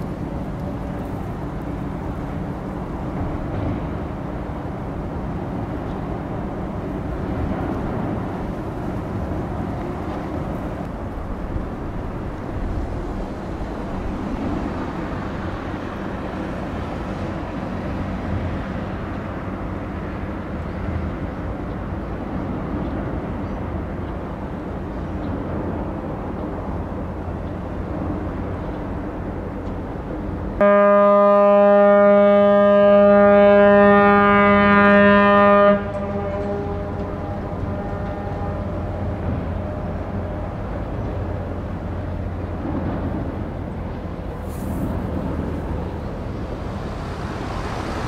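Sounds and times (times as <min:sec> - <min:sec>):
ship diesel engine drone: 0:00.0 - 0:48.0.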